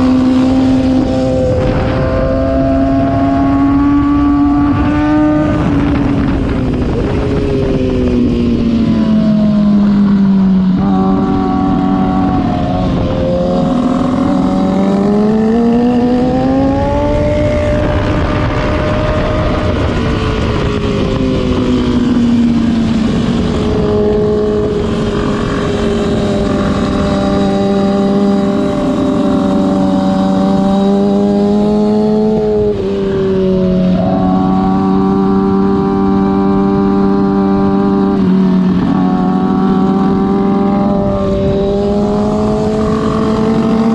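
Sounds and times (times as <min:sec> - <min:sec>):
motorcycle engine revving: 0:00.0 - 0:43.9
wind rush on microphone: 0:00.0 - 0:43.9.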